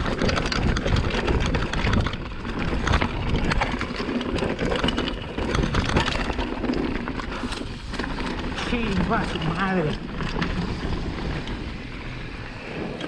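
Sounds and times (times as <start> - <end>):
bike knocking over rocks: 0.0 - 11.6
tyres crunching over stones: 0.0 - 12.3
bike rattling: 0.0 - 13.0.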